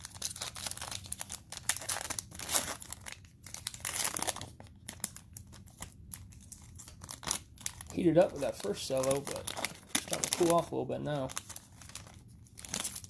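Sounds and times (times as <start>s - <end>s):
cellophane wrapper crinkling: 0.0s - 13.0s.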